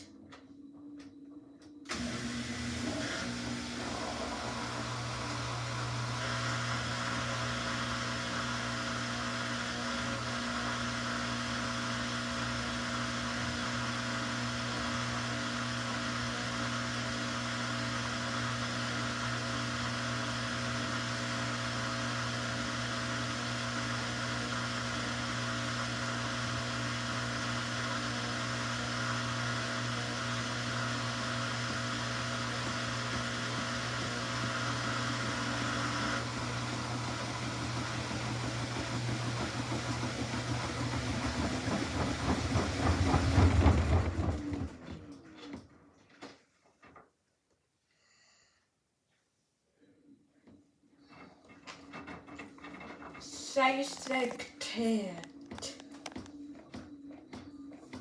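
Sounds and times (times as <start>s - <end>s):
washing machine spinning: 1.9s - 45.8s, 51.0s - 58.0s.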